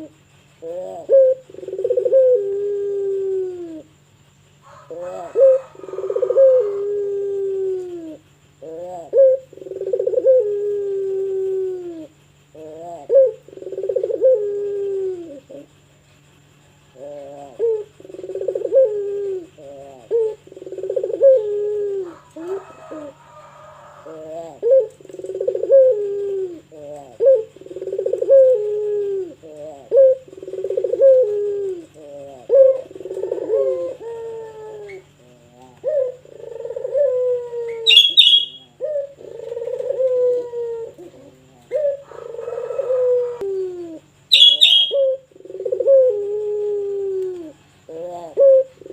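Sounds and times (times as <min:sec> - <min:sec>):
dove cooing: 0:00.0 - 0:48.9
steady low hum: 0:00.0 - 0:48.9.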